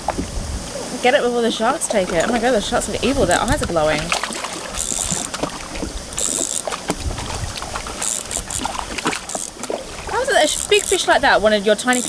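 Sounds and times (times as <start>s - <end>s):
fish splashing in water: 1.6s - 11.3s.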